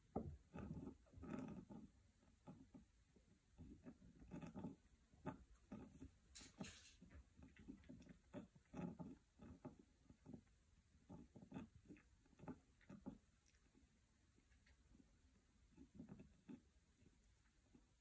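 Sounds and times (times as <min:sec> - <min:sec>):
rabbit chewing hay: 0:00.0 - 0:18.0.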